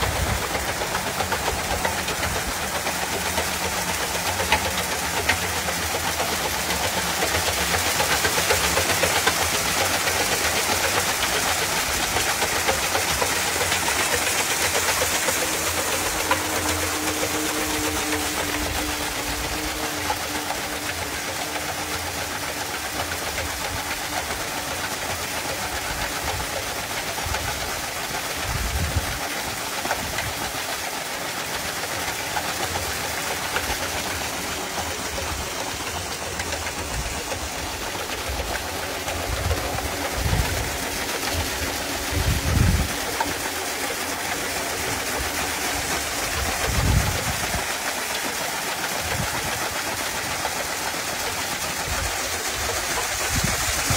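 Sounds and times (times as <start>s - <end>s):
pulleys and belt drive running: 0.0s - 53.9s
water jet splashing on bowls: 0.0s - 53.9s.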